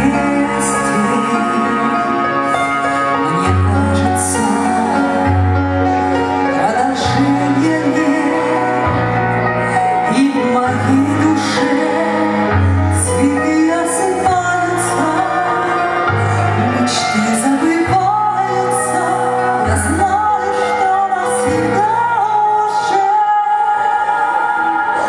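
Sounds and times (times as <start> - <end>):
instrumental accompaniment with bass: 0.0 - 25.0
woman singing into microphone: 0.0 - 25.0.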